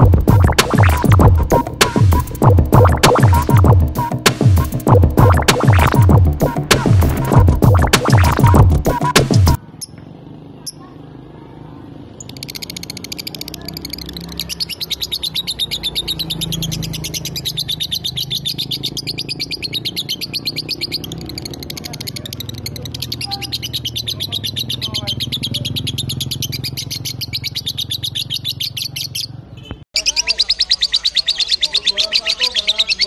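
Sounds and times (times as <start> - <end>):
lovebird chattering: 0.0 - 9.1, 12.1 - 33.0.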